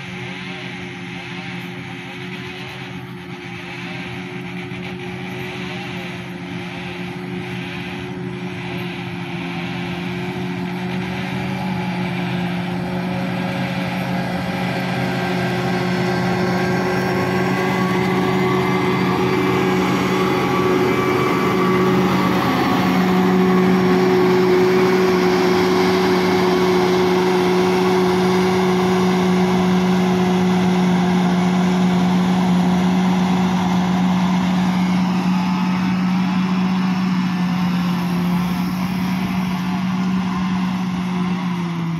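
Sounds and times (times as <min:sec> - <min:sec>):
diesel engine under load: 0:00.0 - 0:41.9
blade scraping gravel: 0:00.2 - 0:40.5.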